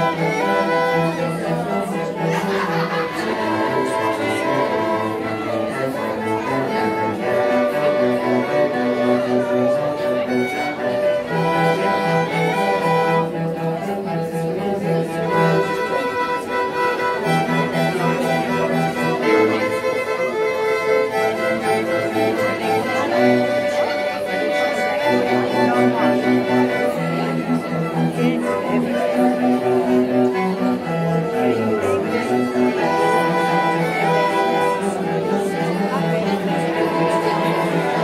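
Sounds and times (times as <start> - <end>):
string ensemble playing: 0.0 - 38.0.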